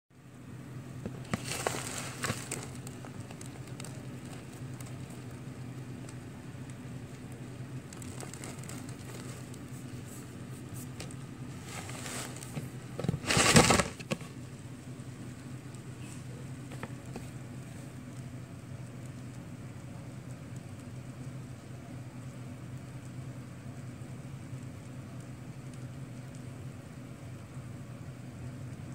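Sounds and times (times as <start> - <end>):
steady low hum: 0.1 - 28.9
mealworms rustling in oats: 0.2 - 28.9.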